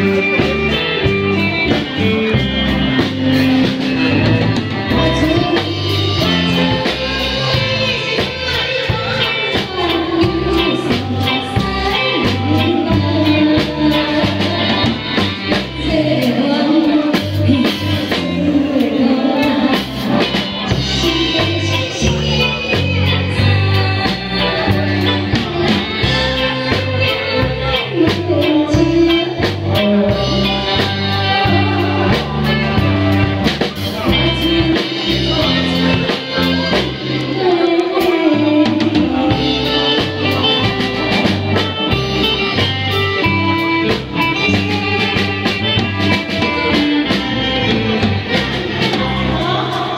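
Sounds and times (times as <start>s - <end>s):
drums: 0.0s - 49.9s
electric bass guitar: 0.0s - 49.9s
keyboard: 0.0s - 49.9s
saxophone: 0.0s - 49.9s
woman singing: 3.6s - 49.9s.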